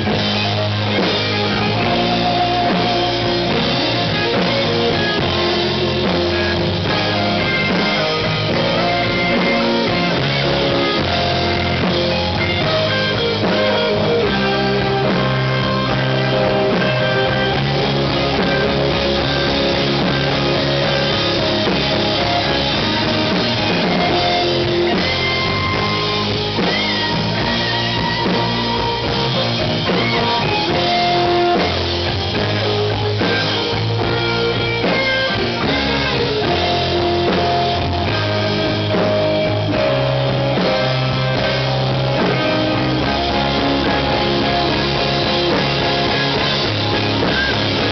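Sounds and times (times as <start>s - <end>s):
drum kit: 0.0s - 47.9s
electric bass: 0.0s - 47.9s
electric guitars: 0.0s - 47.9s
keyboard: 0.0s - 47.9s.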